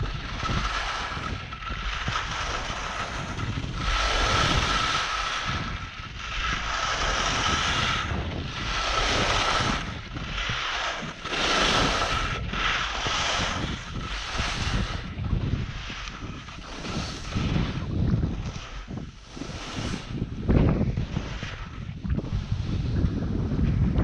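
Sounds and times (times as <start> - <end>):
skis scraping over snow: 0.0 - 24.0
wind on microphone: 0.0 - 24.0.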